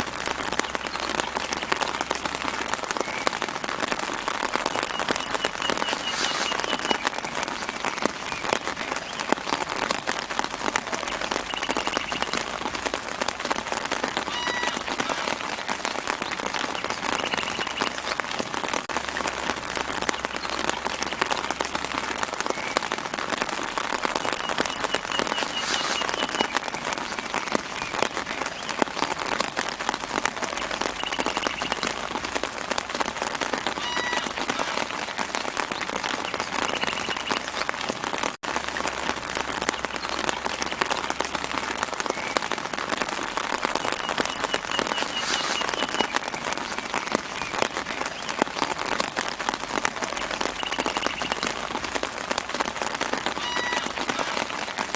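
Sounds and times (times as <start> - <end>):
rain pattering on leaves: 0.0 - 54.9.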